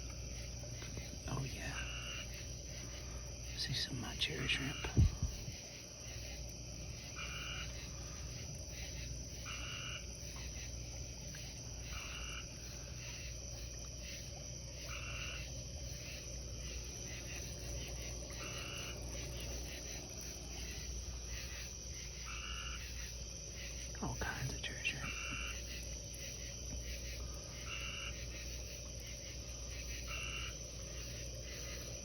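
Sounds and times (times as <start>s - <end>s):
tree frog calling: 0.0s - 32.0s.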